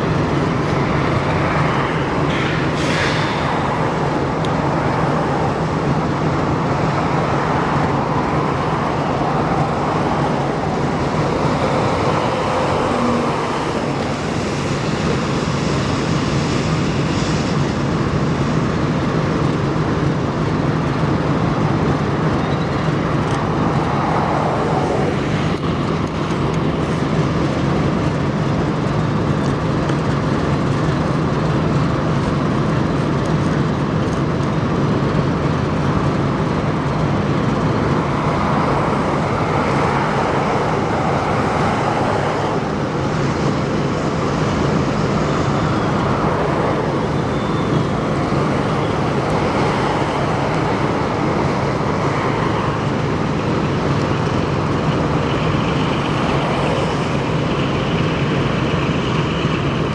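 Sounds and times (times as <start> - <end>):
vehicle engine hum: 0.0 - 59.9.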